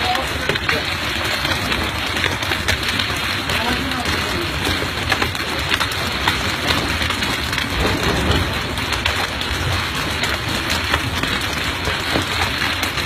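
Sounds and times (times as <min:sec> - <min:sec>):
hail and heavy rain pelting: 0:00.0 - 0:13.0
hailstones ticking on ground: 0:00.0 - 0:13.0.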